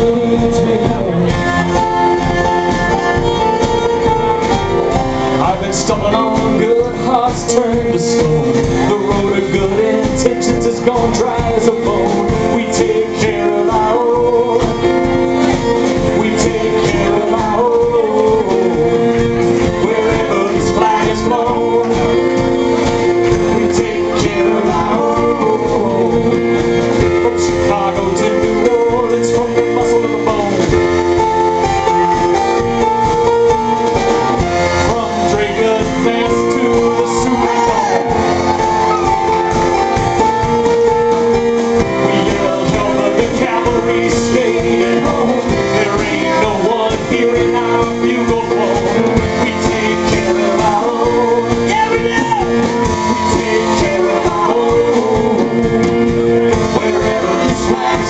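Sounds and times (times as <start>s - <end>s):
drums keeping a beat: 0.0s - 58.0s
man singing lead: 0.0s - 58.0s.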